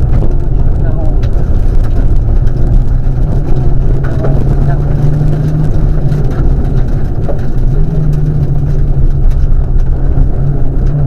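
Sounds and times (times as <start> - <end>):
car engine running hard: 0.0 - 11.0
road and wind rumble: 0.0 - 11.0.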